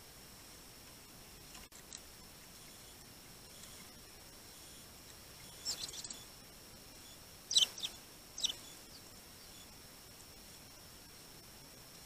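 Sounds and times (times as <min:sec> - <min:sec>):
songbirds chirping: 0:00.8 - 0:12.0.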